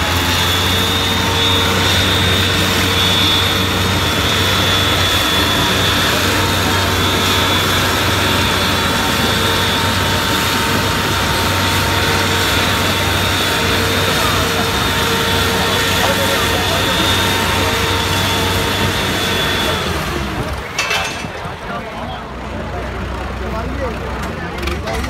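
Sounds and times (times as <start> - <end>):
tractor engines under heavy load: 0.0 - 25.0.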